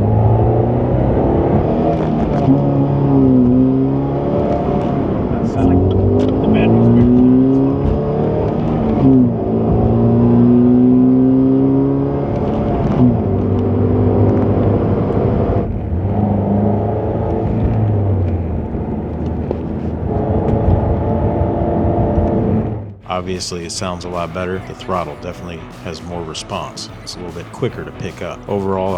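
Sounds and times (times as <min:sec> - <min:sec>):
car engine accelerating: 0:00.0 - 0:28.9.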